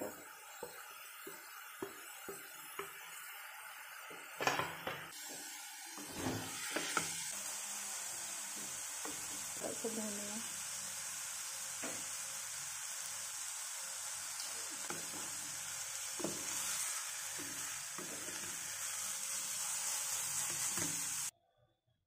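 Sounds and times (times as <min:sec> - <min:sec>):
vegetables sizzling in oil: 0:00.0 - 0:21.3.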